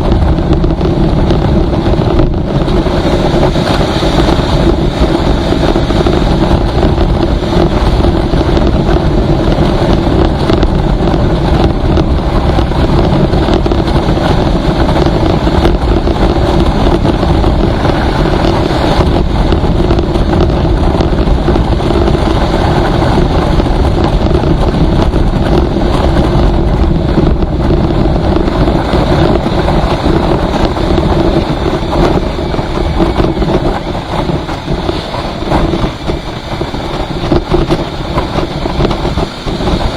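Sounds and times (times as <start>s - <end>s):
vehicle engine hum: 0.0s - 39.9s
wind rush on microphone: 0.0s - 39.9s.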